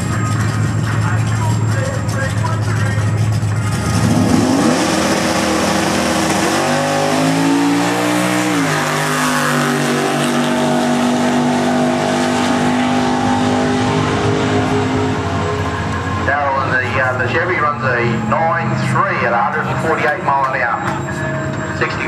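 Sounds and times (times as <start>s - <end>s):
drag car engine revving: 0.0s - 22.0s.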